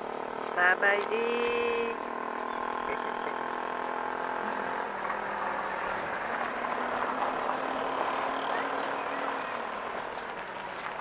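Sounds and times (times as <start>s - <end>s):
motor engine humming: 0.0s - 11.0s.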